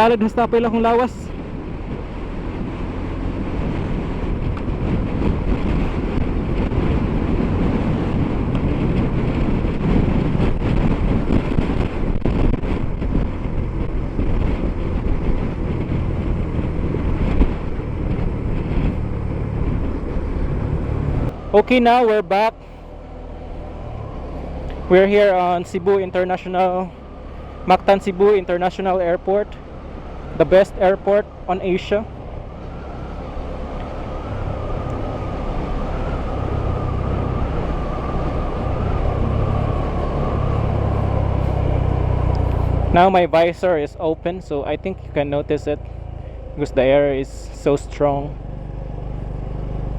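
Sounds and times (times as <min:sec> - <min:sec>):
motorcycle engine hum: 0:00.0 - 0:49.9
wind rushing over helmet: 0:00.9 - 0:43.2.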